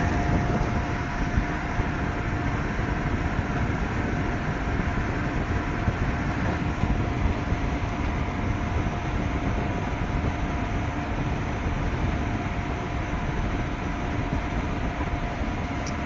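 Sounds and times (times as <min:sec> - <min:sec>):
air conditioner fan rush: 0:00.0 - 0:16.0
faint machine hum: 0:00.0 - 0:16.0.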